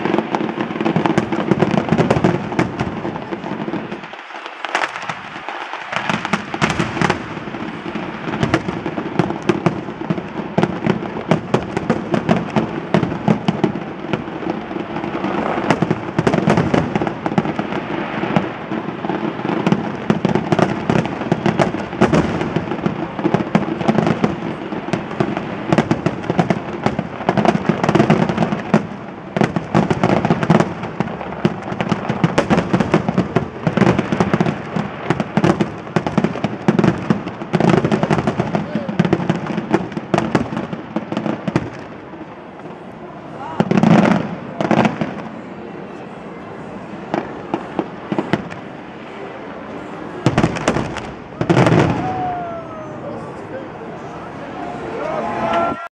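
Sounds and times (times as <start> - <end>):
fireworks crackling: 0.0 - 55.9.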